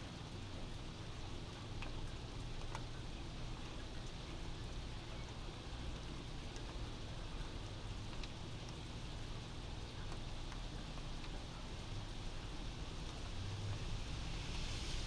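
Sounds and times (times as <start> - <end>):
steady rain: 0.1 - 15.0.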